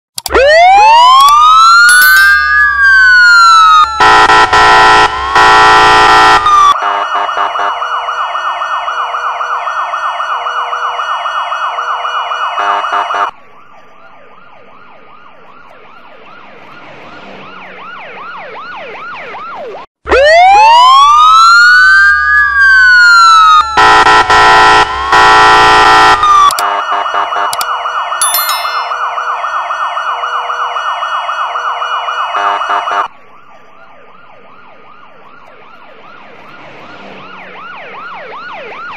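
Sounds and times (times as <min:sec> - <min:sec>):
processed police siren: 0:00.2 - 0:38.9.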